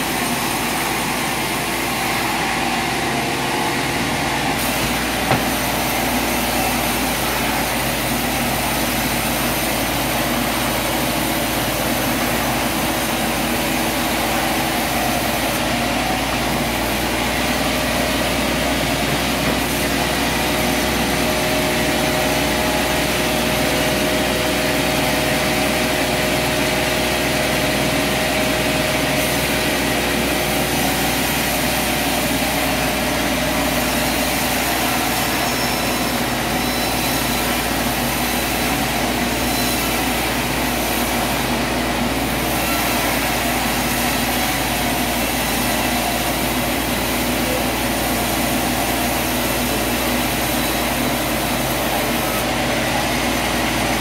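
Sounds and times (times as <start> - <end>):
band sawmill drone: 0.0 - 54.0.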